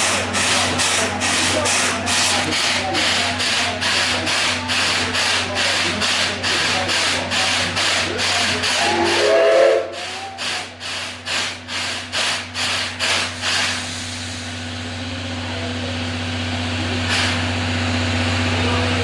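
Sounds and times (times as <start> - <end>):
steam hissing: 0.0 - 14.6, 16.8 - 17.6
steam locomotive chuffing: 0.0 - 19.0.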